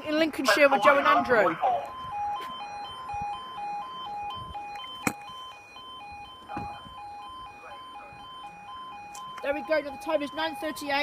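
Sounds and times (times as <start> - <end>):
two-tone crossing alarm: 0.0 - 11.0.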